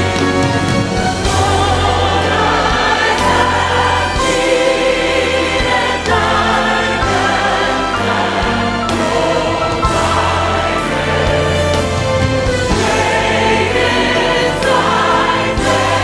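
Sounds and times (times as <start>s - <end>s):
group of voices singing: 0.0s - 16.0s
steady bass line: 0.0s - 16.0s.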